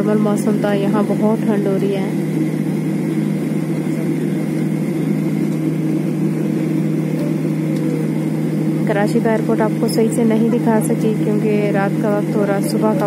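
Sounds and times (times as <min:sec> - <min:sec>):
airliner engine hum in cabin: 0:00.0 - 0:13.0.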